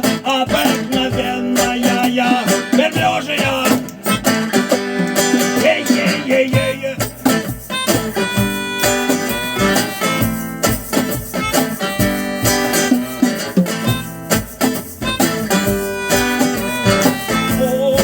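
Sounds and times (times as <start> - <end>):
acoustic band playing: 0.0 - 18.0
strummed acoustic guitar: 0.0 - 18.0.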